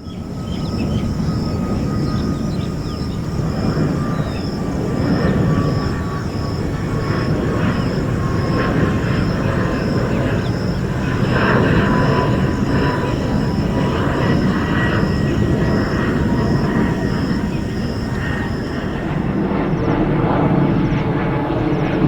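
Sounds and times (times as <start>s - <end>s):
faint pulsing high tone: 0.0s - 19.6s
airplane engine rumble: 0.0s - 22.0s.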